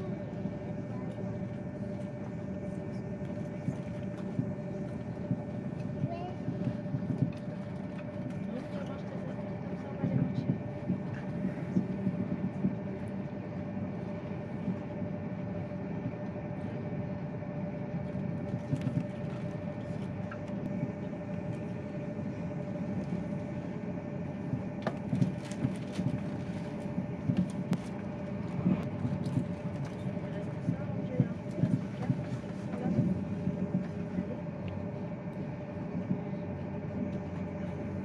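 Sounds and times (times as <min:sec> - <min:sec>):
train cabin rumble and hum: 0:00.0 - 0:38.0.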